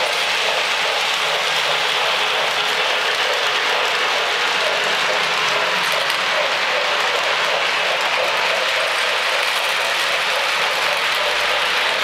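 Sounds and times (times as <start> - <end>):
model train wheels rattling on track: 0.0 - 12.0.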